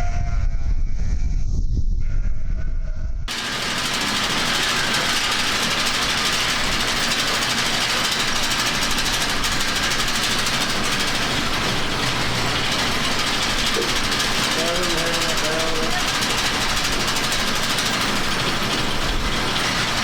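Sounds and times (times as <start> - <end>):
engine-driven machine running: 3.3 - 20.0.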